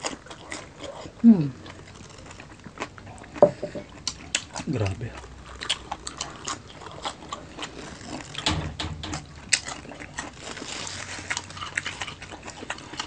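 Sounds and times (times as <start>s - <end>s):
close chewing: 0.0s - 8.4s, 9.4s - 13.0s.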